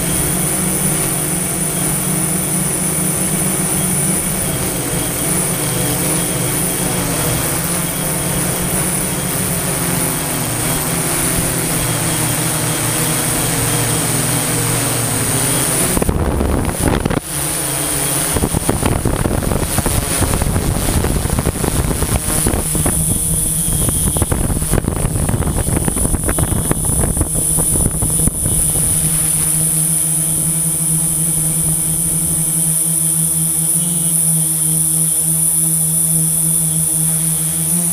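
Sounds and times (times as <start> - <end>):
drone motors whining: 0.0 - 37.9.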